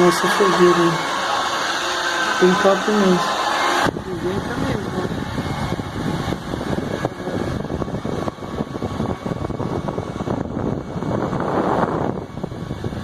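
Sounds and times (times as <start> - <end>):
small fan blowing air: 0.0 - 13.0.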